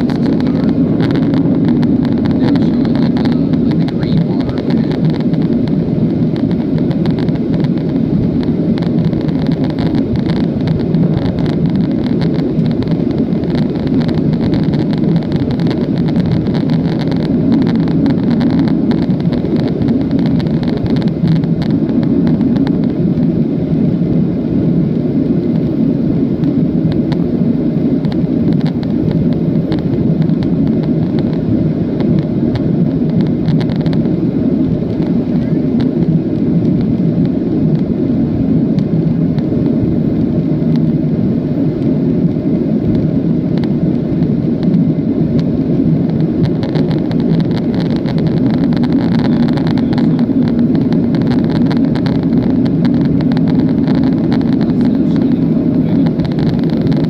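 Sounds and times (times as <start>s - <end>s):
airplane cabin roar: 0.0s - 57.0s.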